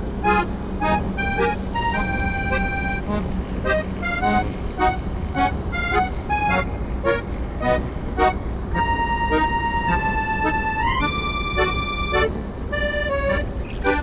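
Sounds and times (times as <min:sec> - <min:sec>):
low steady rumble: 0:00.0 - 0:14.0
music with sliding notes: 0:00.2 - 0:14.0.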